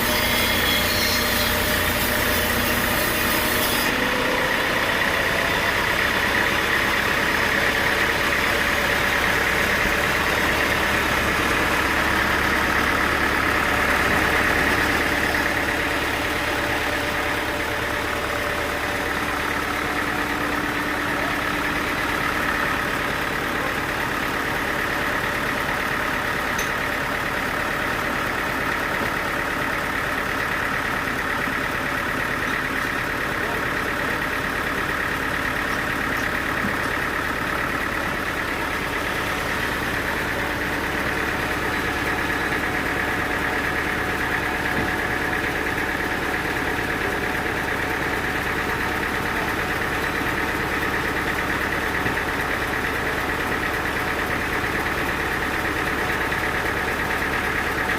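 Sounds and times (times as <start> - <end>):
high steady machine whine: 0.0 - 57.9
sawmill engine hum: 0.0 - 57.9.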